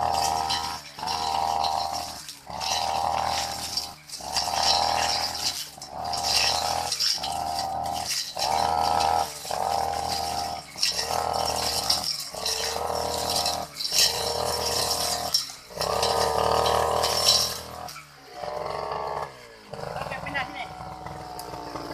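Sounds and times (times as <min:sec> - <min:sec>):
brush cutter cutting grass: 0:00.0 - 0:21.9.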